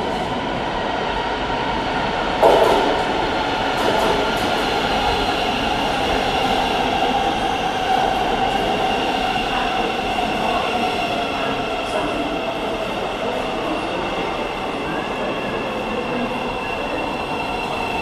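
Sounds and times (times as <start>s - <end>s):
train rumbling into platform: 0.0s - 18.0s.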